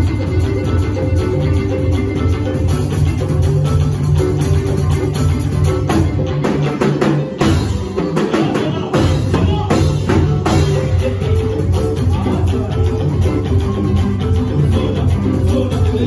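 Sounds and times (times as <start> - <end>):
drums playing: 0.0 - 16.0
live band music: 0.0 - 16.0.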